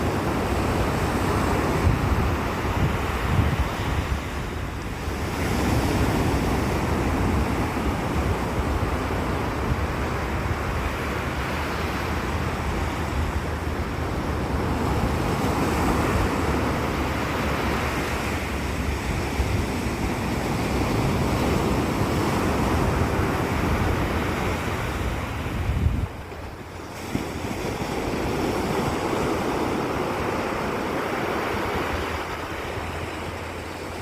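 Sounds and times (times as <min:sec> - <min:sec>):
sea waves washing in: 0:00.0 - 0:34.0
wind buffeting microphone: 0:00.0 - 0:34.0.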